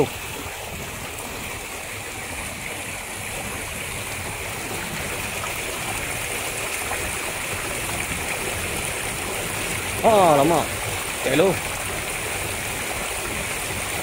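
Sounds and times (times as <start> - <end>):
river rushing over boulders: 0.0 - 14.0.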